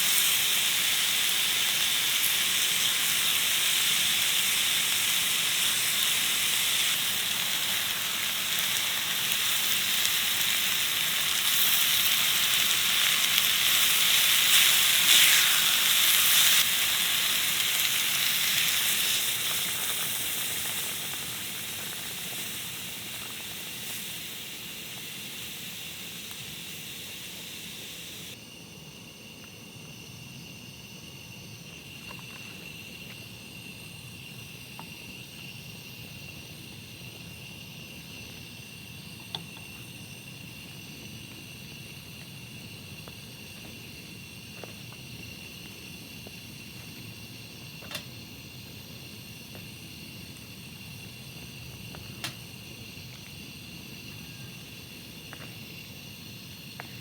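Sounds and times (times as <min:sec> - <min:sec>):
insects trilling: 0:00.0 - 0:57.0
loud even hiss: 0:00.0 - 0:57.0.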